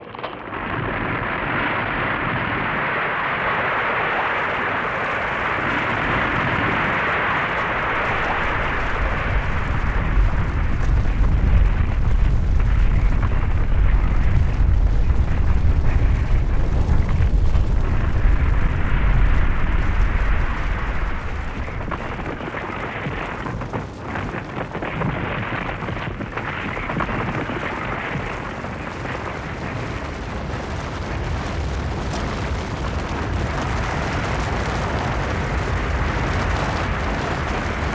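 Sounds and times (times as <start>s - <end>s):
avalanche rumble: 0.0s - 37.9s.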